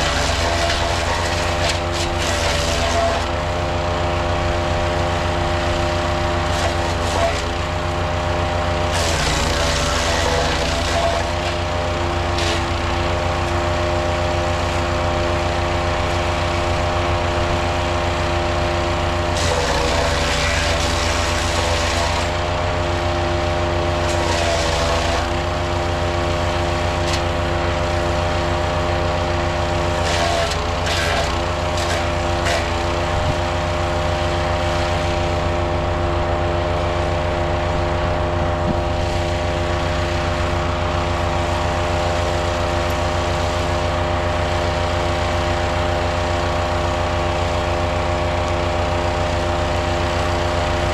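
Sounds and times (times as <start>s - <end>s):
wood chipper engine running: 0.0s - 50.9s.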